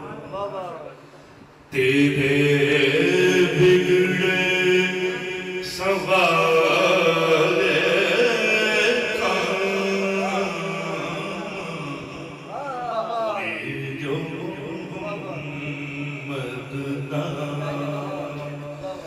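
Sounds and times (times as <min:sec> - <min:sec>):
devotional chanting: 0:00.0 - 0:19.0.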